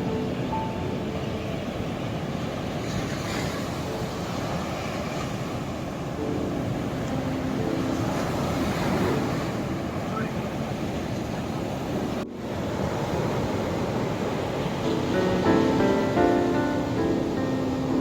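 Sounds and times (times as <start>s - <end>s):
waves breaking: 0.0s - 18.0s.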